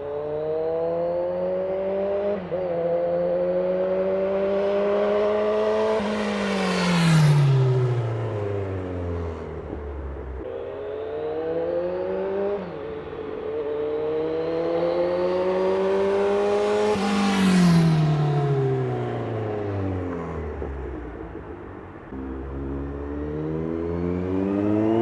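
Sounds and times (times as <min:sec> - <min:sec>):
motorcycle passing by: 0:00.0 - 0:21.5, 0:22.1 - 0:25.0
motorcycle accelerating: 0:00.0 - 0:25.0.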